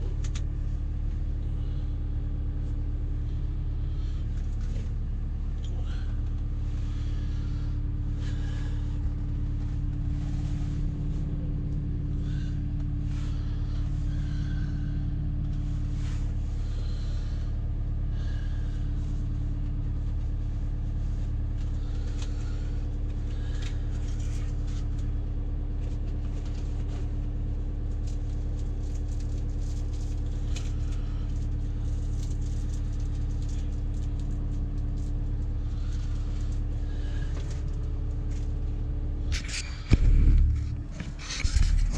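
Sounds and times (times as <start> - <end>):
backhoe engine running: 0.0 - 41.9.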